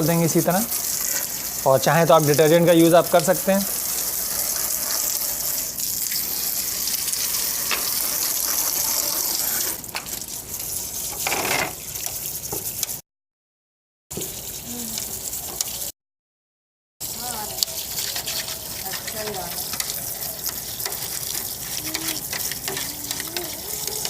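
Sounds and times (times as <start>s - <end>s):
running water splashing: 0.0s - 13.0s, 17.0s - 24.0s.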